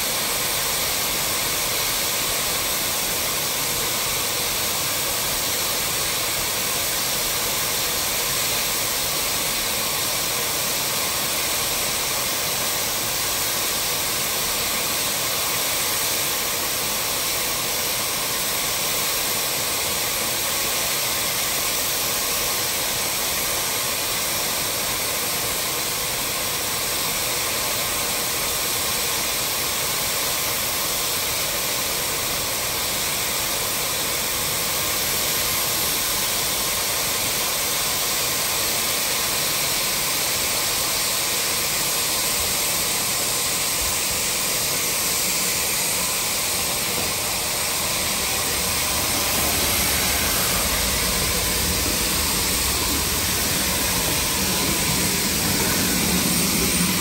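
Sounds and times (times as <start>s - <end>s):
steam train rushing hiss: 0.0s - 57.0s.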